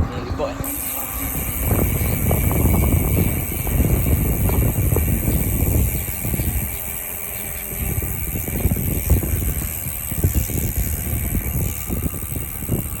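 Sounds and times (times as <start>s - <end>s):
wind rumbling on microphone: 0.0s - 13.0s
bicycle hub ratcheting buzz: 0.6s - 13.0s.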